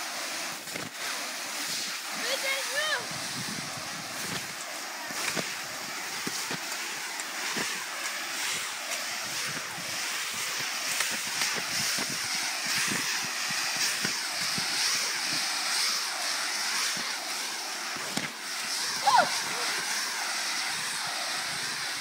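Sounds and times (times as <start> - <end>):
sprinkler spraying water hiss: 0.0 - 22.0.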